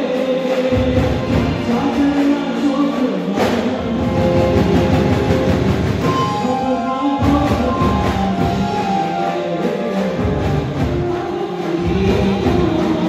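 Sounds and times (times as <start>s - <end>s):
singing over drum beat: 0.0s - 13.0s.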